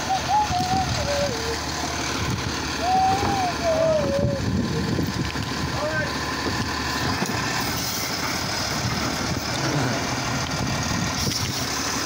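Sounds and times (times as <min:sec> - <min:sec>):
garbage truck engine running: 0:00.0 - 0:12.0.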